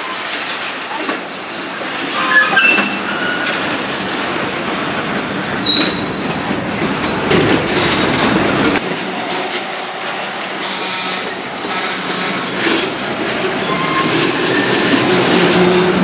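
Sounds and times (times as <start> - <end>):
railroad cars rumbling: 0.0 - 16.0
wheels squealing on rails: 0.0 - 16.0.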